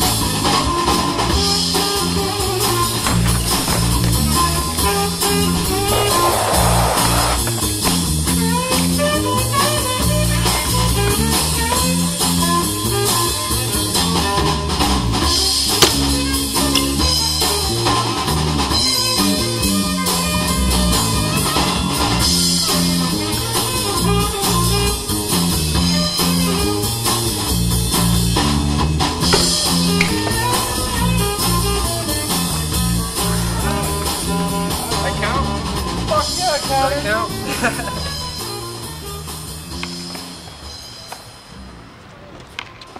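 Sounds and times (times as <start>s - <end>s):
guitar-led music with bass and drums: 0.0s - 41.0s.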